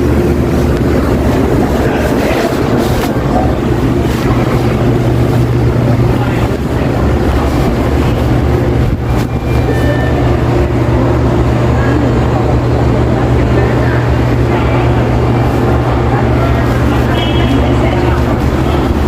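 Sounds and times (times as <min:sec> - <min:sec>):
low machine hum: 0:00.0 - 0:19.0
shop floor din: 0:00.0 - 0:19.0.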